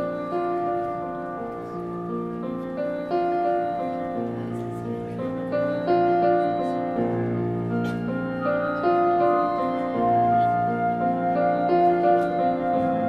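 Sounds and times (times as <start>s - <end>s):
slow instrumental music chords: 0.0s - 13.0s.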